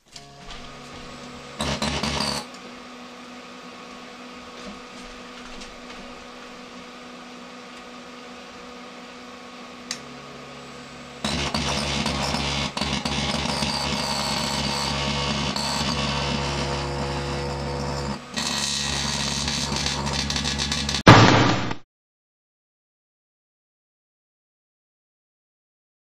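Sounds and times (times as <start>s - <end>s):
microwave oven humming: 0.0s - 21.0s
microwave loud harsh buzz: 0.0s - 21.8s.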